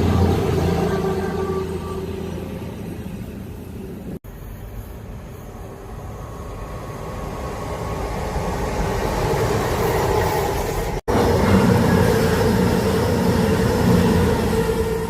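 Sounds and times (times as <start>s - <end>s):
train approaching: 0.0s - 15.0s.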